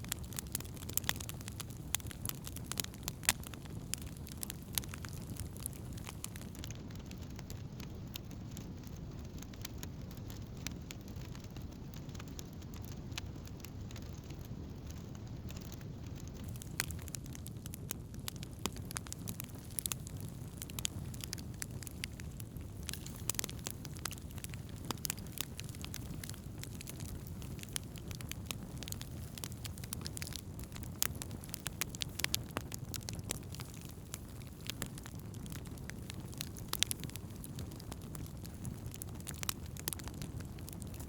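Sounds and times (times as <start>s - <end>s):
burning wood crackling: 0.0s - 41.0s
rush of flames: 0.0s - 41.0s.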